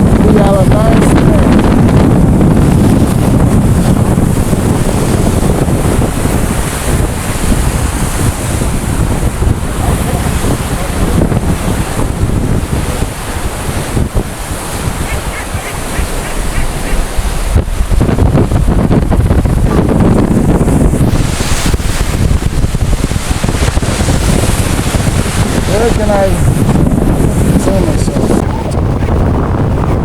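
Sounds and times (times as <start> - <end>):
sea waves washing in: 0.0 - 30.0
wind buffeting microphone: 0.0 - 30.0.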